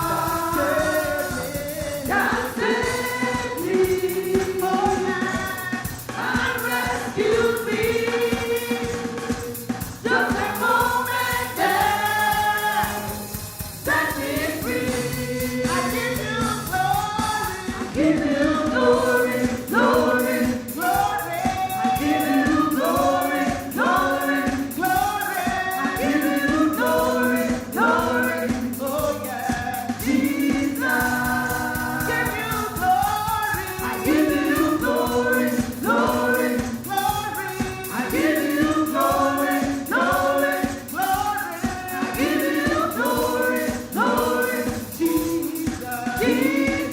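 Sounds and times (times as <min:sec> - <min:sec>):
choir and congregation singing: 0:00.0 - 0:46.9
steady beat and bass: 0:00.0 - 0:46.9.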